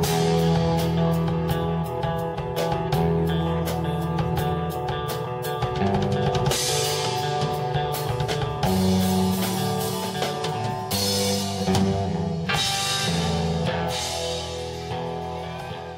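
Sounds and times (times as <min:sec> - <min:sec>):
rock band playing: 0:00.0 - 0:15.9.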